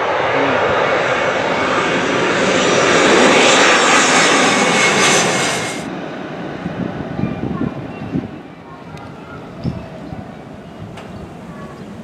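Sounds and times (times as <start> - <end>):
jet airliner engine rush: 0.0 - 12.0.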